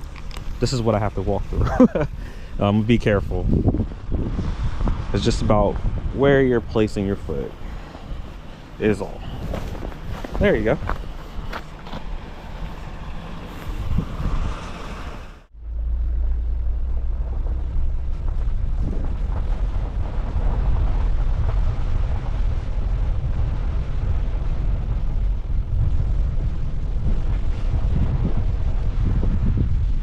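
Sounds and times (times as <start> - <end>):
wind buffeting microphone: 0.0 - 15.5, 16.2 - 30.0.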